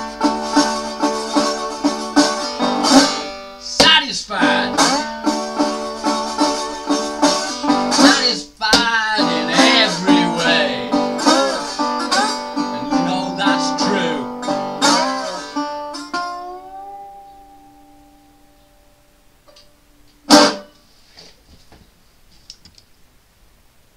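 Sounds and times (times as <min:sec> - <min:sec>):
resonator guitar fingerpicked blues: 0:00.0 - 0:20.8.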